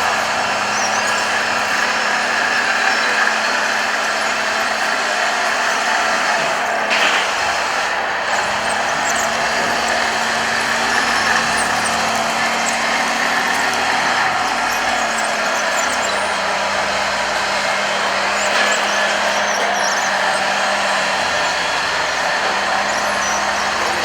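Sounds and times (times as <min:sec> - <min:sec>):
radio-controlled models whirring: 0:00.0 - 0:24.0.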